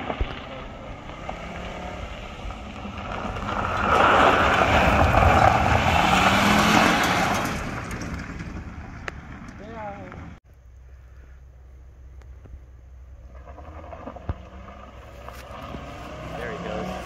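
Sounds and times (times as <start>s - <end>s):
car engine revving: 0.0s - 10.4s, 13.0s - 17.0s
tyres crunching on gravel: 0.0s - 10.4s, 12.2s - 17.0s.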